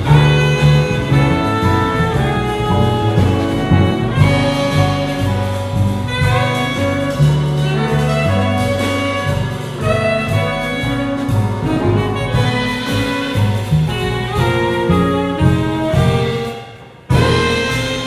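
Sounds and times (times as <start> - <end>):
drums: 0.0 - 18.0
plucked upright bass: 0.0 - 18.0
tenor saxophone melody: 0.0 - 18.0.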